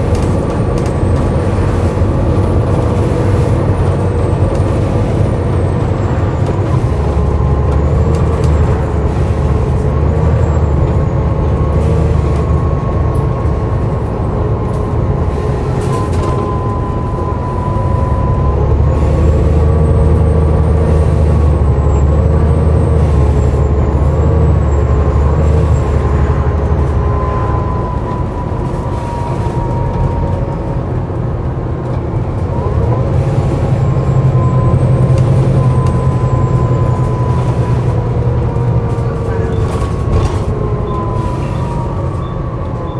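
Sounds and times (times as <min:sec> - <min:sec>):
bus engine and road rumble: 0:00.0 - 0:42.9
wavering groaning whine: 0:00.0 - 0:42.9.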